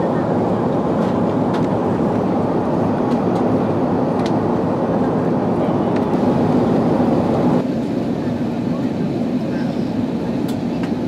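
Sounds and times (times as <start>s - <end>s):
aircraft cabin roar: 0.0s - 11.0s.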